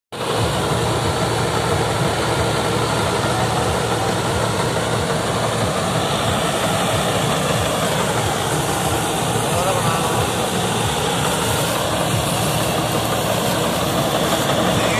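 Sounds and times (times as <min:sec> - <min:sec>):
tractor engine rumbling: 0:00.1 - 0:14.9
reaper machine noise: 0:00.2 - 0:14.9.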